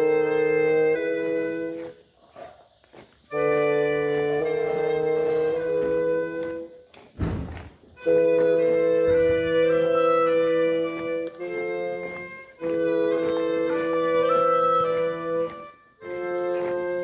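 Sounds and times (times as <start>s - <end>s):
clarinets playing solemn chords: 0.0s - 2.1s, 3.3s - 6.9s, 8.0s - 17.0s.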